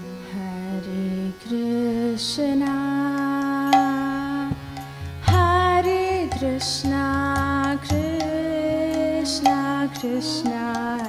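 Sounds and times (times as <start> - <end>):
harmonium chords: 0.0 - 11.0
woman singing into a microphone: 0.0 - 11.0.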